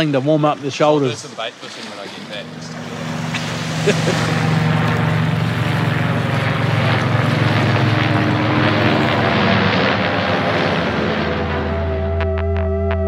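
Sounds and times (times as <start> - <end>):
helicopter rotor beating: 0.0 - 12.2
low engine hum: 0.0 - 12.9.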